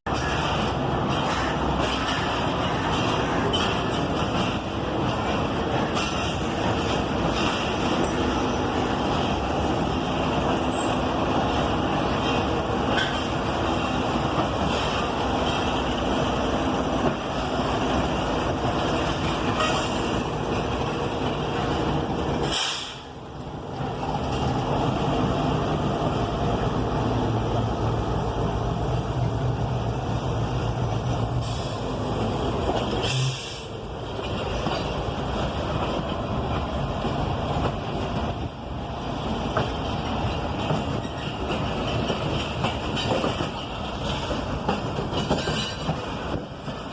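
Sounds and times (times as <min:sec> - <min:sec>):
train running on track: 0:00.0 - 0:46.9.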